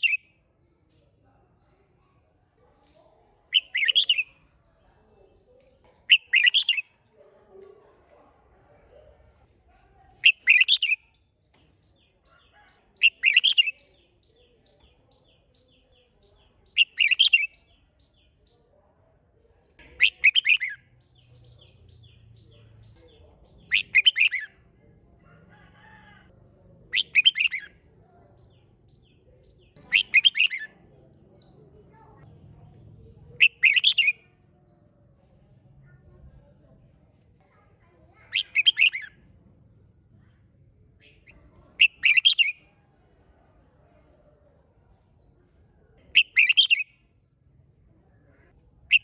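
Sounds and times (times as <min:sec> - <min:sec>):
bird song phrases: 0:00.0 - 0:49.0
soft bird chirps: 0:02.4 - 0:07.0, 0:10.2 - 0:26.2, 0:26.9 - 0:35.0, 0:35.8 - 0:40.4, 0:41.0 - 0:49.0.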